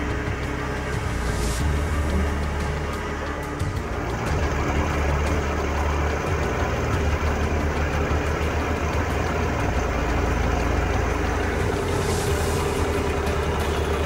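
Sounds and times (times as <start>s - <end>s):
crane engine rumbling: 0.0s - 14.0s.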